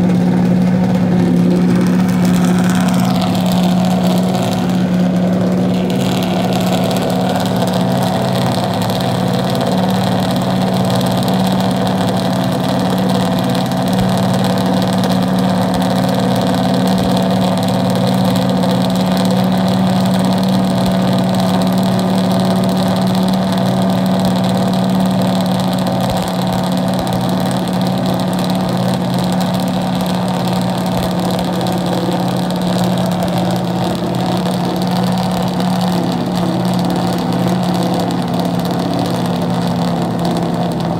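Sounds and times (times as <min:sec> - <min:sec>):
race car engine fast idle: 0:00.0 - 0:40.9.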